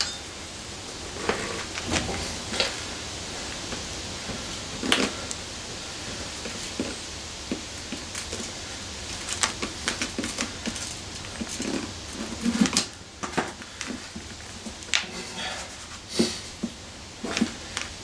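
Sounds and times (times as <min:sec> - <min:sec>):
tire irons clicking and scraping: 0:00.0 - 0:18.0.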